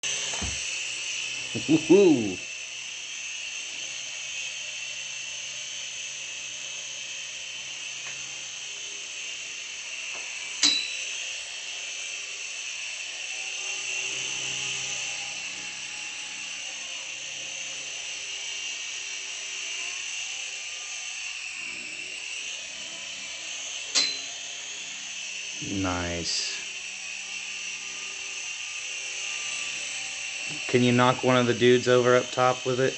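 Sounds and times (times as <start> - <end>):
toy helicopter motor whining: 0.0 - 32.9.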